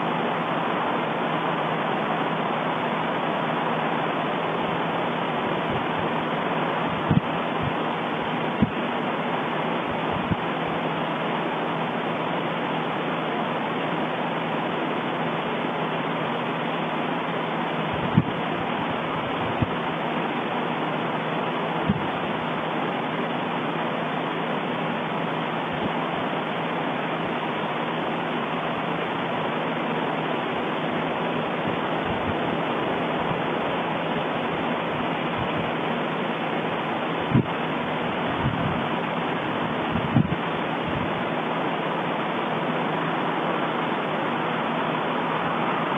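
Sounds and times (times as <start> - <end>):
volcano eruption rushing: 0.0 - 45.9.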